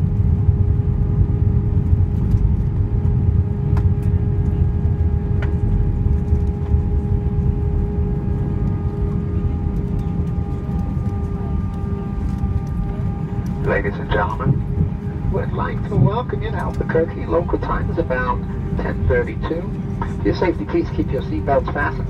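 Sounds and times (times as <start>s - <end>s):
jet engines whining: 0.2s - 22.0s.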